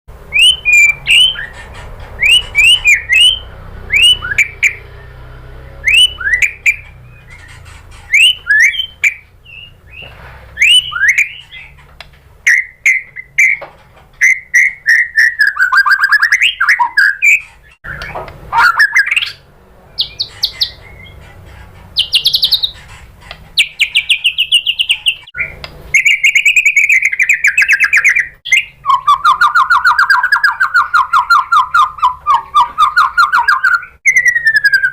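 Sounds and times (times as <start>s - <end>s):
bird buzzy trills and rattles: 0.2s - 34.9s
bird singing whistled notes: 0.3s - 11.7s, 12.4s - 13.6s, 14.2s - 19.4s, 22.0s - 22.8s, 23.6s - 34.9s.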